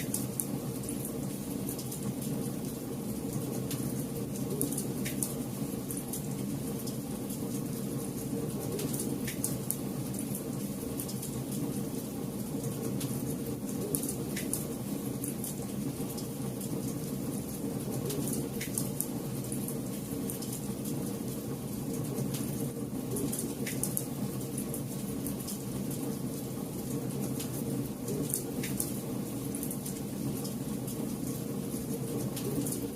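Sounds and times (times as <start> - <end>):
rush of campfire flames: 0.0 - 32.9.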